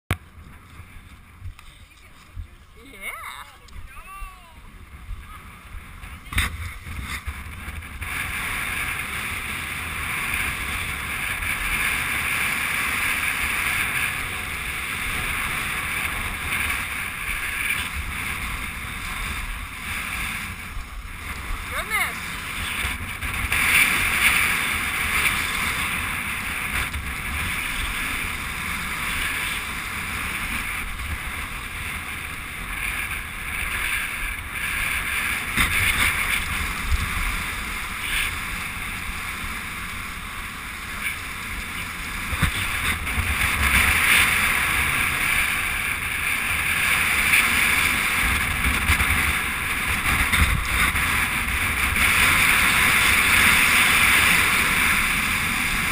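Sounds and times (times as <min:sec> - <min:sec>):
wind rushing over microphone: 0:00.1 - 0:55.9.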